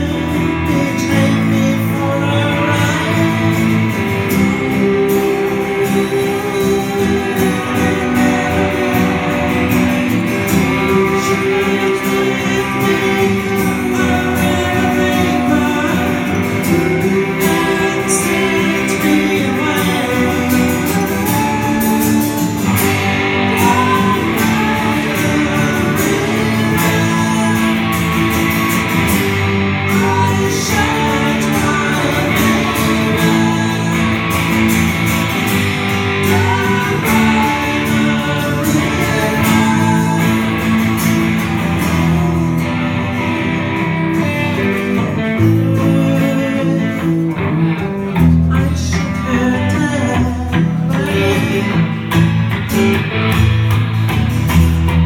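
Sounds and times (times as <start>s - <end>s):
electric guitar: 0.0s - 55.0s
person singing: 0.0s - 55.0s
strummed acoustic guitar: 0.0s - 55.0s.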